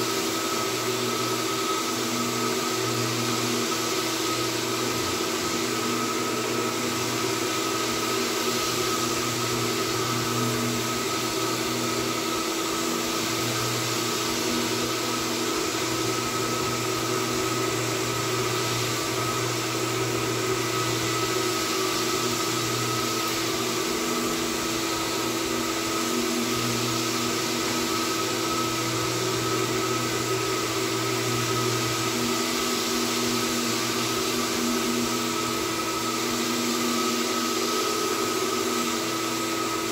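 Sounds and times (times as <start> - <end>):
dust vacuum suction hiss: 0.0 - 39.9
floor sanding machine running: 0.0 - 39.9.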